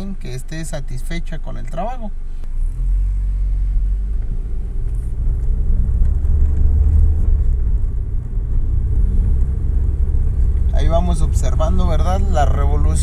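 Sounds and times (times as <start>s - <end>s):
car engine from inside cabin: 0.0s - 13.0s
road noise: 0.0s - 13.0s.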